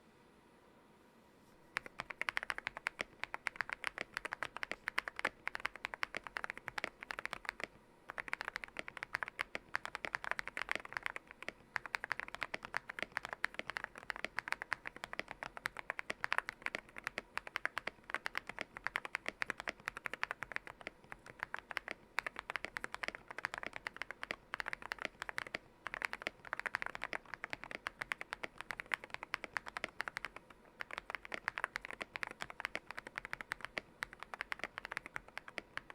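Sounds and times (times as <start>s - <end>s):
fast typing on mechanical keyboard: 1.8s - 35.9s.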